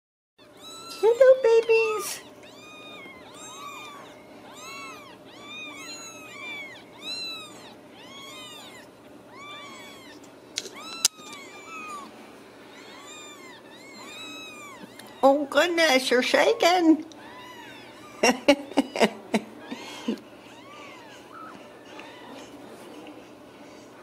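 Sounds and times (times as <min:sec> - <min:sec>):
kittens mewing: 0:00.4 - 0:22.7.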